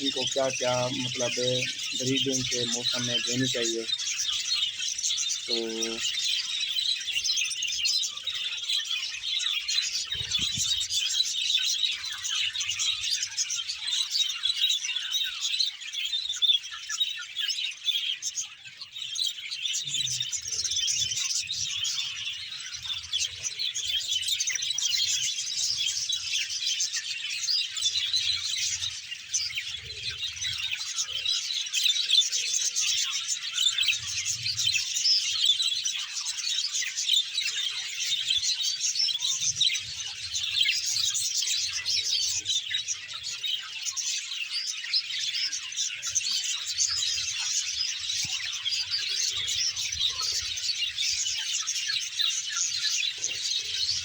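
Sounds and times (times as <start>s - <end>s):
flock of budgerigars chirping: 0.0s - 54.0s.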